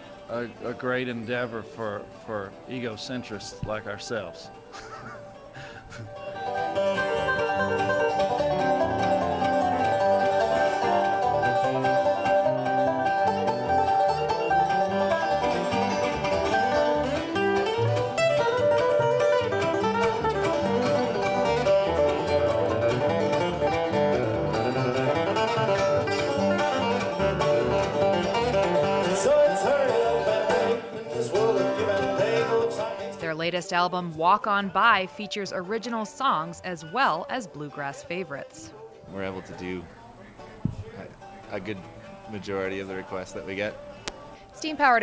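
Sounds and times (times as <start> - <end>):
banjo picking: 0.0 - 45.0
bluegrass band playing: 0.0 - 45.0.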